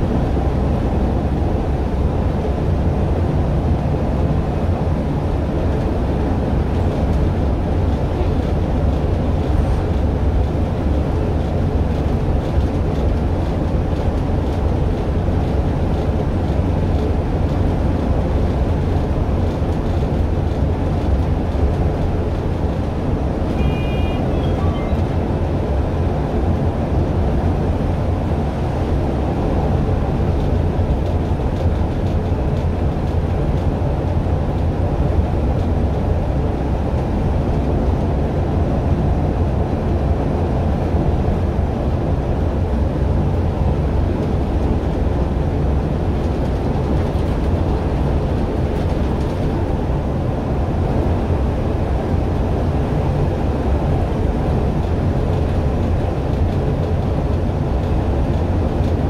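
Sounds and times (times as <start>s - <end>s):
bus engine and tyres rumbling: 0.0s - 59.0s.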